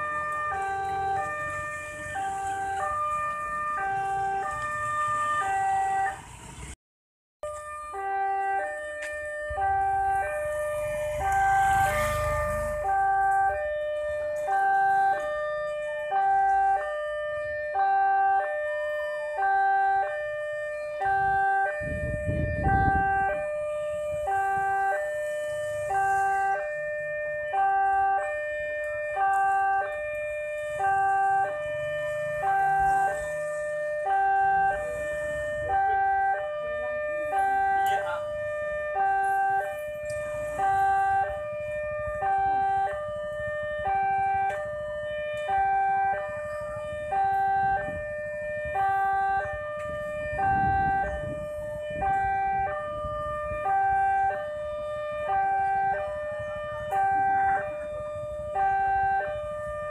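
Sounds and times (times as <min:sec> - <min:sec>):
level crossing warning alarm: 0:00.0 - 0:06.8, 0:07.4 - 0:59.9.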